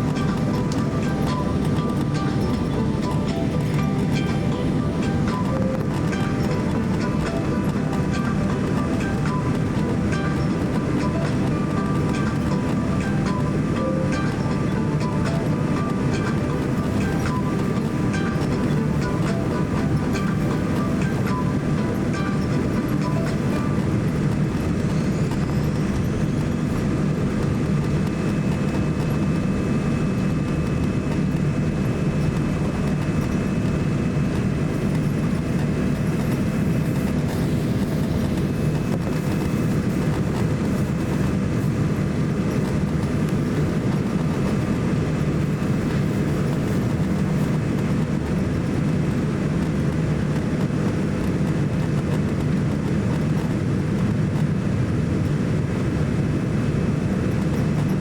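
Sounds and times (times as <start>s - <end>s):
airliner cabin engine rumble: 0.0s - 58.0s
faint whining tones: 0.0s - 58.0s.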